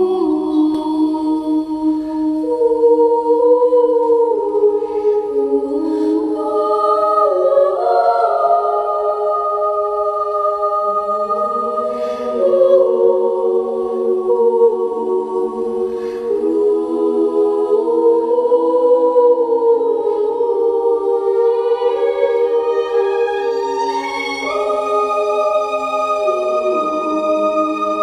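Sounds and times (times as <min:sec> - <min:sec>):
wordless choir holding chords: 0:00.0 - 0:28.0.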